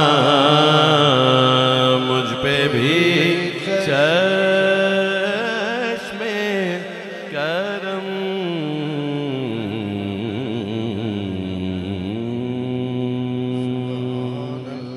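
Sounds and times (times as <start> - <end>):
man singing ornamented notes: 0.0 - 14.9.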